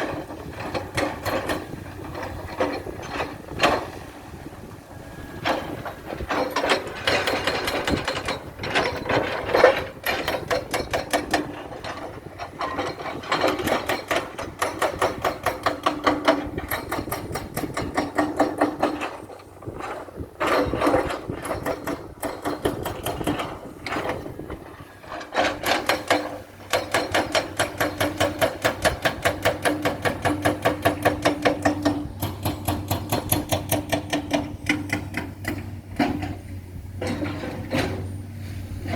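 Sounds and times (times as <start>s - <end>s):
engine hum: 0.0s - 38.9s
excavator tracks clanking: 0.0s - 38.9s.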